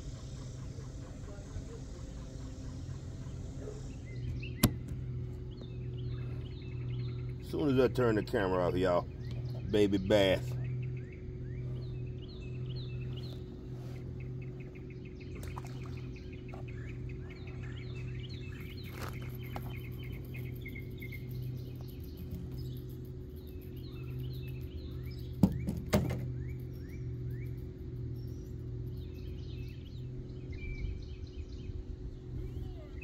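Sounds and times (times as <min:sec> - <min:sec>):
low hum: 0:00.0 - 0:33.0
small birds chirping: 0:00.0 - 0:33.0.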